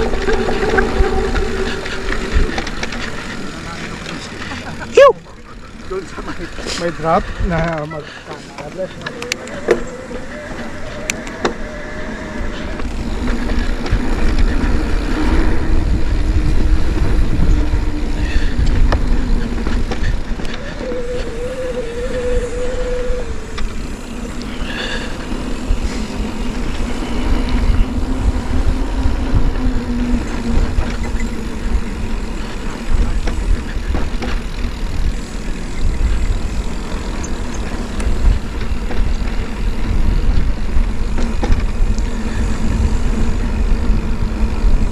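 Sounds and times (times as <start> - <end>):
wind buffeting microphone: 0.0 - 4.4, 5.6 - 44.9
mountain bike rattling on dirt trail: 0.0 - 44.9.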